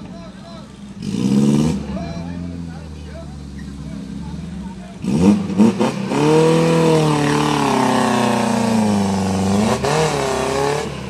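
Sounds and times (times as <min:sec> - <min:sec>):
engine at high revs: 0:00.7 - 0:11.0.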